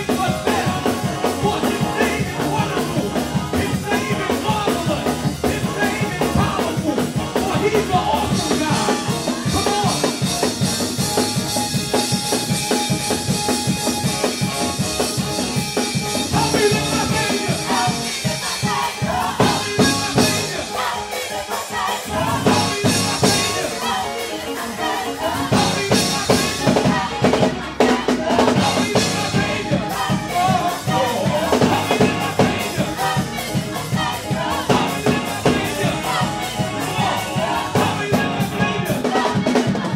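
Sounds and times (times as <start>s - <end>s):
bass: 0.0s - 39.9s
drum kit: 0.0s - 39.9s
gospel singers: 0.0s - 39.9s
keyboard: 0.0s - 39.9s.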